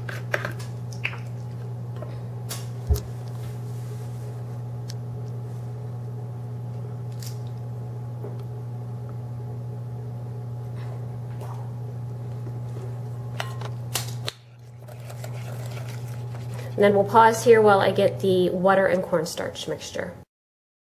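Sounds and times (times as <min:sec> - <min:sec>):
low electrical hum: 0:00.0 - 0:20.3.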